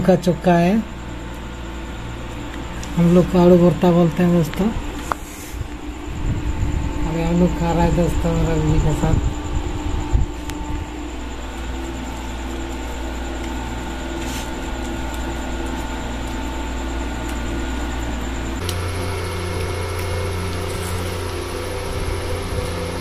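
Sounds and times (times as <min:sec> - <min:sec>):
machine hum with fixed tones: 0:00.0 - 0:23.0.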